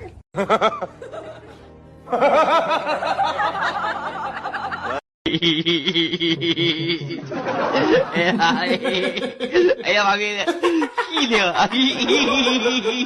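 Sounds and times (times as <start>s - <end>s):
person laughing: 0.4s - 1.5s, 2.1s - 13.0s
music playing: 0.4s - 13.0s.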